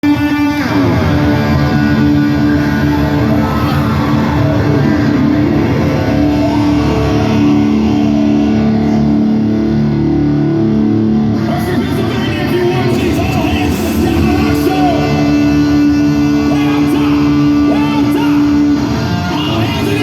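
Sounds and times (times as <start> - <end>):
bass guitar: 0.0 - 20.0
electric guitars: 0.0 - 20.0
hard rock band playing live: 0.0 - 20.0.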